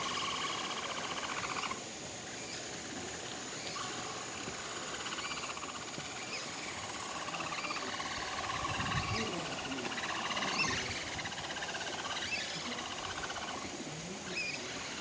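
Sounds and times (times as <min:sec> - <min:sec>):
capybaras rapid pulsing buzz: 0:00.0 - 0:15.0.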